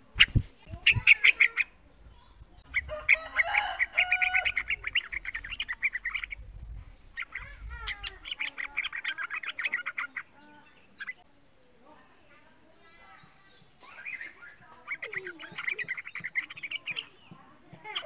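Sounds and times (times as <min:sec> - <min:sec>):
bird chattering song: 0:00.0 - 0:11.3, 0:12.6 - 0:18.0.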